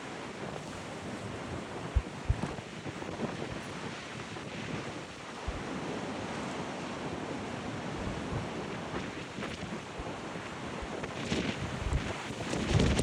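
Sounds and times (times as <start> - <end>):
rush of wind: 0.0 - 13.0
sea waves breaking: 0.0 - 13.0
wind buffeting the microphone: 0.0 - 13.0.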